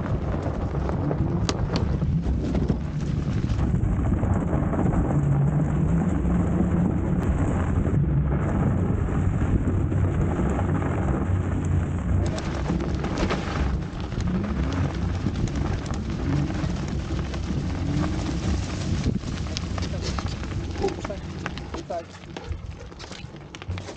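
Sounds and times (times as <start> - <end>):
tyres rolling on slushy pavement: 0.0 - 23.9
wind buffeting microphone: 0.0 - 23.9.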